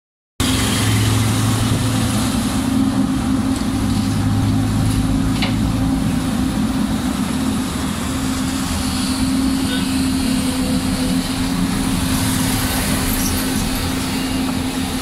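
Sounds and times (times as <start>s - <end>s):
excavator diesel engine droning: 0.4s - 15.0s.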